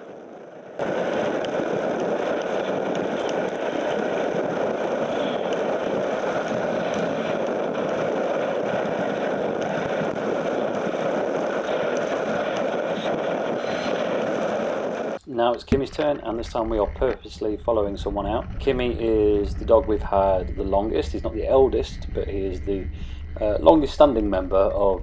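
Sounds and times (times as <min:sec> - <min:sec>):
bike tyres rolling on gravel: 0:00.0 - 0:25.0.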